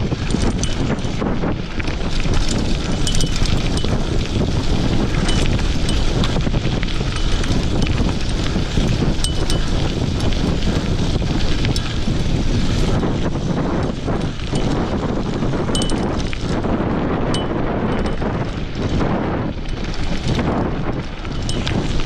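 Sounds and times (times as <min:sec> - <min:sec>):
bike clicks and clatters: 0:00.0 - 0:22.0
tyres on gravel: 0:00.0 - 0:22.0
wind buffeting microphone: 0:00.0 - 0:22.0.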